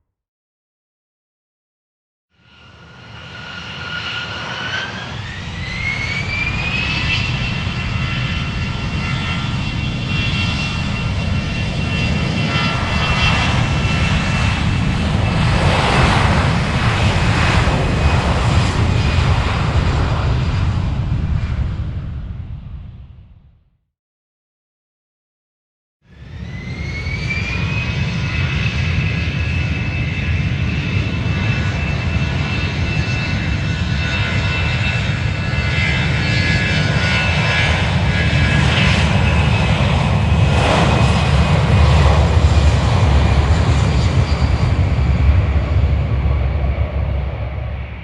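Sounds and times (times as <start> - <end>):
aircraft turbine engine spooling up: 2.4 - 23.2, 26.1 - 48.0.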